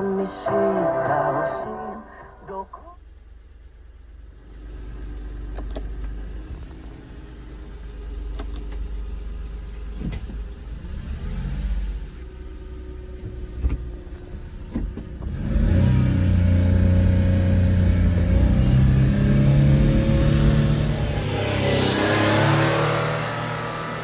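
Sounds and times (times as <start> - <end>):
small truck engine running: 3.0 - 24.0.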